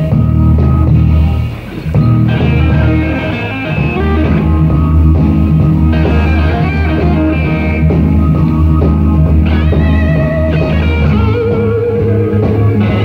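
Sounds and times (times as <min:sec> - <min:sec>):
bass guitar: 0:00.0 - 0:13.0
drums: 0:00.0 - 0:13.0
electric guitar: 0:00.0 - 0:13.0
keyboards: 0:00.0 - 0:13.0.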